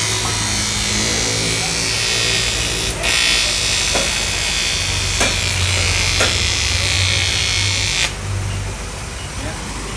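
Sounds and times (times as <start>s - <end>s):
power tool buzzing: 0.0s - 8.2s.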